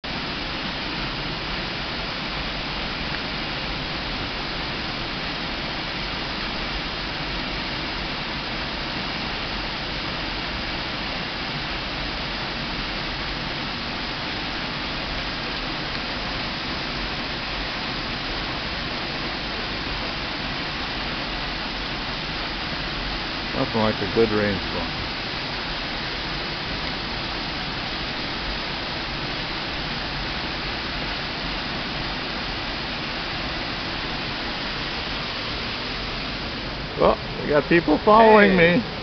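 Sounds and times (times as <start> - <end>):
small waterfall splashing into pool: 0.0 - 38.8.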